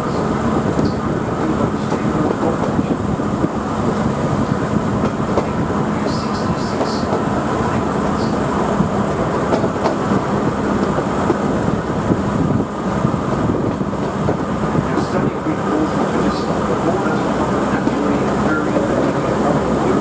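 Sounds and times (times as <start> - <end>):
diesel engine drone: 0.0 - 20.0
wheels rumbling on rails: 0.0 - 20.0.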